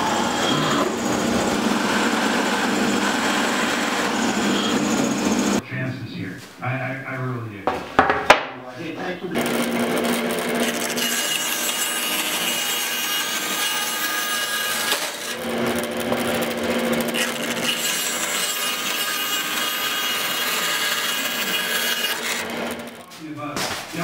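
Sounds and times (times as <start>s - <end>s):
bandsaw cutting wood: 0.0s - 5.6s, 9.3s - 23.2s.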